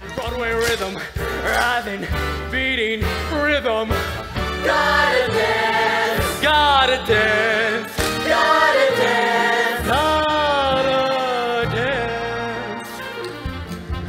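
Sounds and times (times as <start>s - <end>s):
instrumental accompaniment: 0.0s - 14.0s
musical theatre singing: 0.0s - 14.0s.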